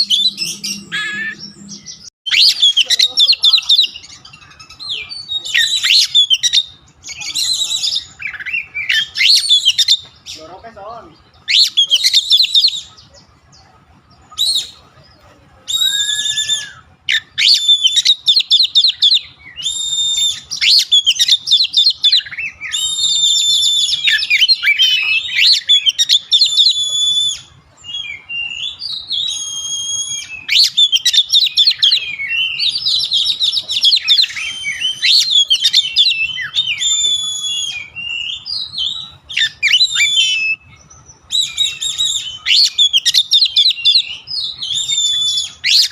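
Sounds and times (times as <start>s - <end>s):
bird singing whistled trills: 0.0s - 45.9s.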